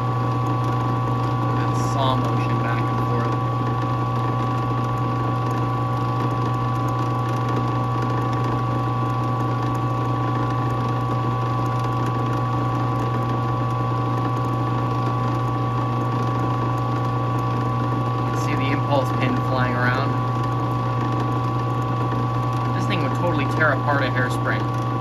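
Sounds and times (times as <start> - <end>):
drill press motor running: 0.0 - 25.0.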